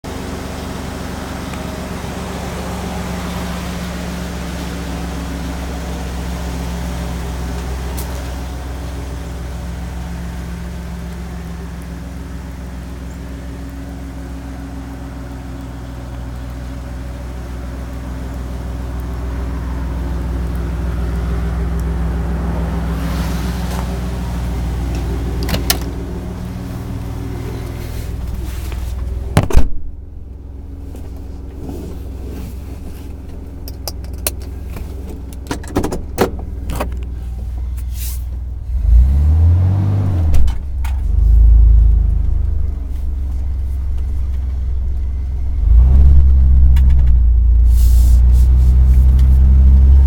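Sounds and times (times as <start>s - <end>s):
pickup engine idling: 0.0s - 39.0s, 40.4s - 50.0s.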